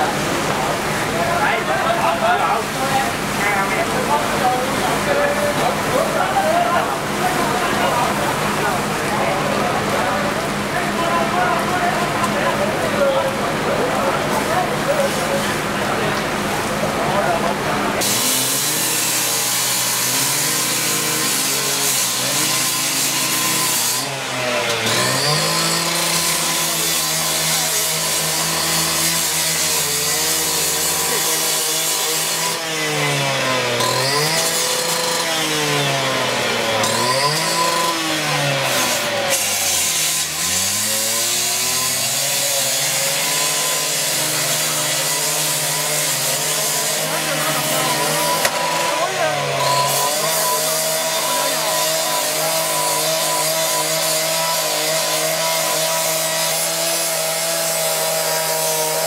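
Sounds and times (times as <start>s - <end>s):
power saw cutting steel: 0.0s - 59.0s.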